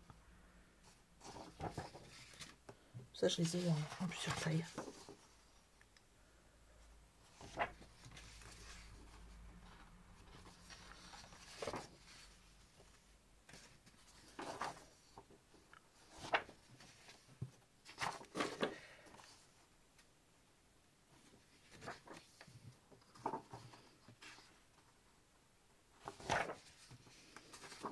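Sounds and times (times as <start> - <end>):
soft paper rustles: 0.8 - 5.9, 7.2 - 20.2, 21.1 - 25.2, 25.9 - 27.9.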